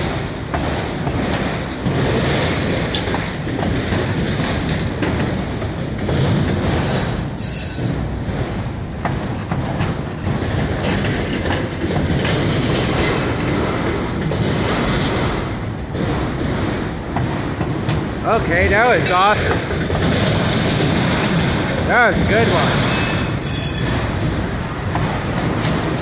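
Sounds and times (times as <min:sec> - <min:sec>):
train wheels rumbling on rail: 0:00.0 - 0:26.0
wheels clacking over rail joints: 0:00.0 - 0:26.0.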